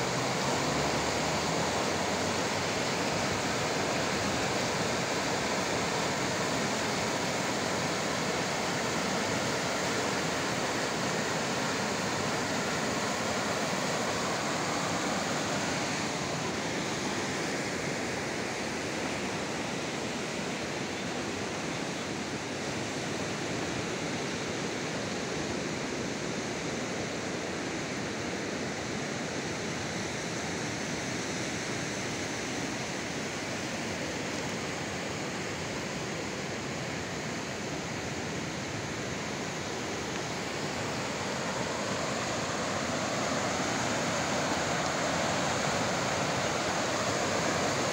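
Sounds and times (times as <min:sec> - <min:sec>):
river rushing over rapids: 0:00.0 - 0:47.9.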